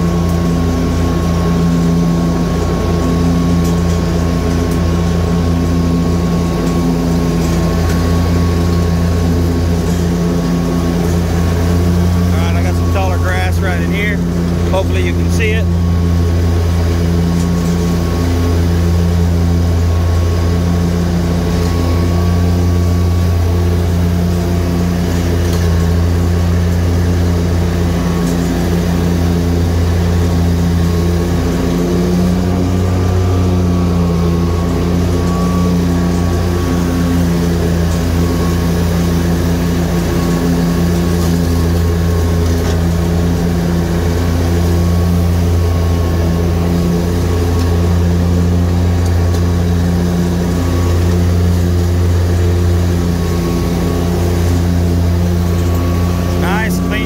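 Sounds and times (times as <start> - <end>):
mower engine humming: 0.0 - 57.0.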